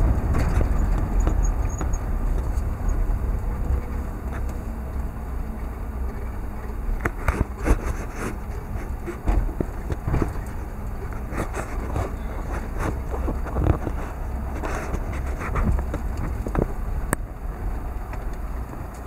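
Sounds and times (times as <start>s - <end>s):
car knocking and rattling: 0.0s - 19.0s
engine and tyres rumbling: 0.0s - 19.0s.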